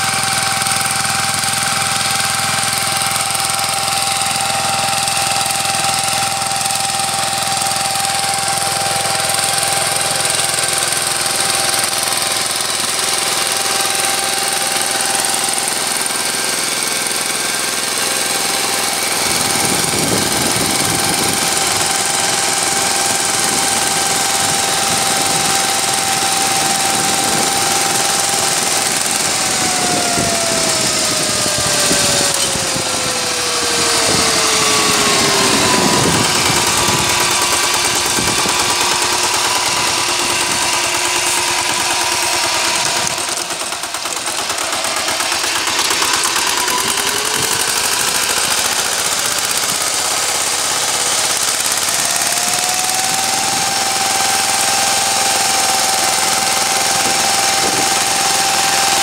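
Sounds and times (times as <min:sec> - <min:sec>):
power tiller diesel engine running: 0:00.0 - 0:59.0.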